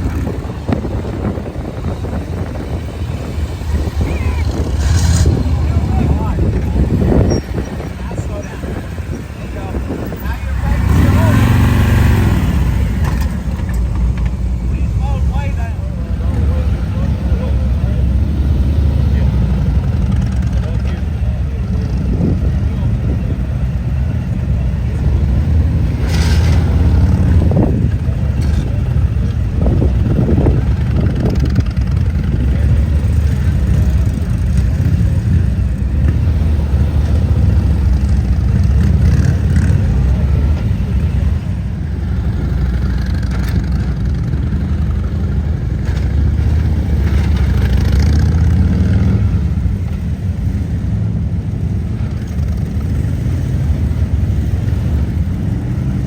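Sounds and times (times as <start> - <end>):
motorcycle engines rumbling and revving: 0.0 - 56.0.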